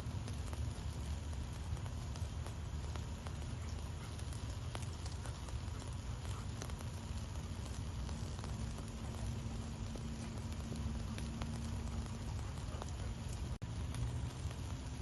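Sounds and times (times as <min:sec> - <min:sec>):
fire burning rumble: 0:00.0 - 0:15.0
fire popping and snapping: 0:00.0 - 0:15.0.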